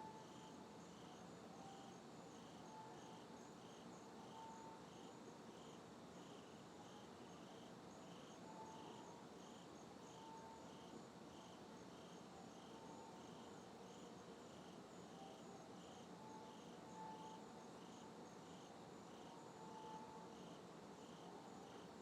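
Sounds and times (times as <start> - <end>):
crickets chirping: 0.1 - 21.9.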